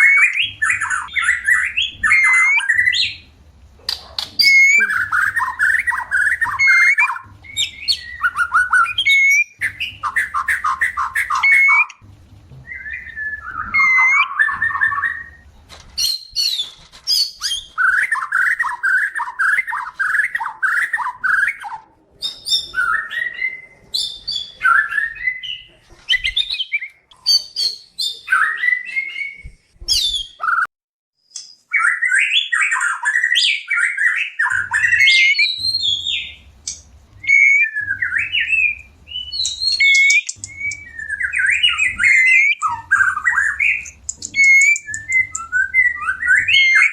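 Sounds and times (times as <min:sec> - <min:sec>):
songbird whistles and trills: 0:00.0 - 0:03.3, 0:03.9 - 0:12.0, 0:12.6 - 0:46.9.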